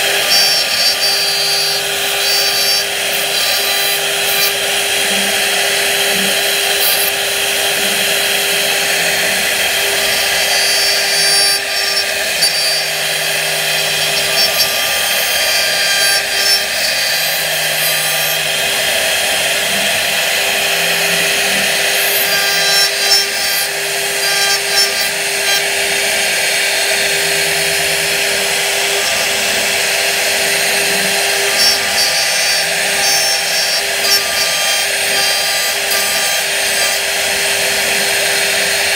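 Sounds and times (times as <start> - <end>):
bit rasping wood: 0.0 - 38.9
router spindle whining: 0.0 - 38.9.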